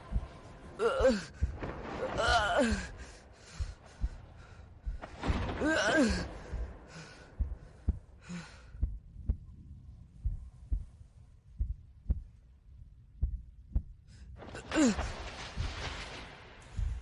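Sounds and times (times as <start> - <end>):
heartbeat thuds: 0.0 - 14.1, 16.7 - 17.0.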